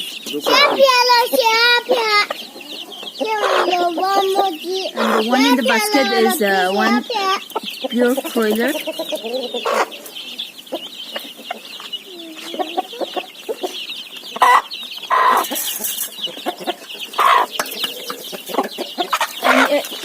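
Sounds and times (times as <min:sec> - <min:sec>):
chickens clucking: 0:00.0 - 0:20.0
chicks cheeping: 0:00.0 - 0:20.0.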